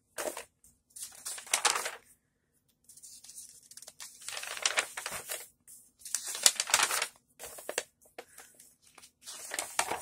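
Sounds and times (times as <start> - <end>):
magazine pages rustling: 0.2 - 2.1, 2.9 - 10.0.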